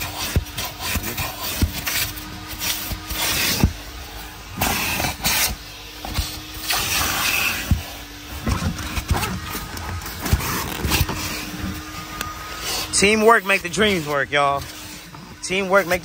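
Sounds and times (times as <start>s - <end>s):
rubbing and brushing upholstery: 0.0s - 16.0s.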